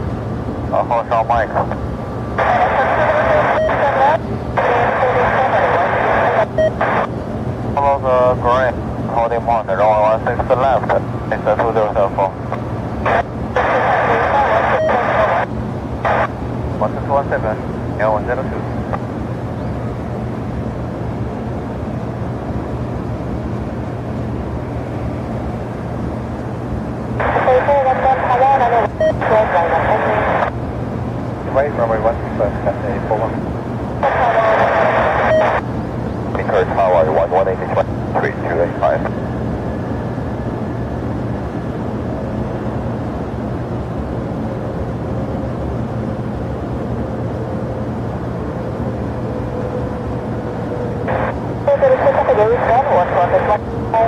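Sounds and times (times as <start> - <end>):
jet engines rumbling: 0.0 - 54.0
low steady hum: 0.0 - 54.0.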